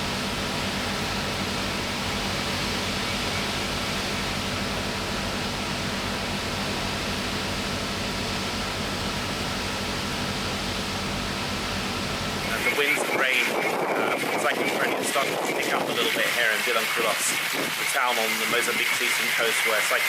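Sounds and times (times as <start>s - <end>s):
rain and wind hiss: 0.0s - 20.0s.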